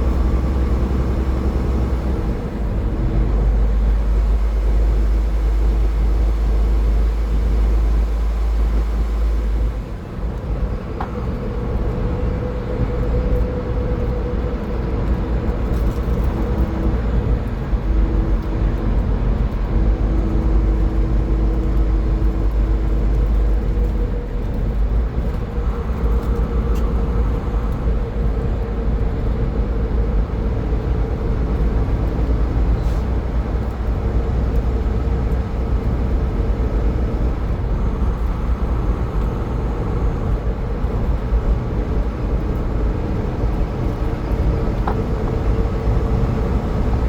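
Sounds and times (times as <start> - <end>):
car driving at highway speed: 0.0 - 47.0.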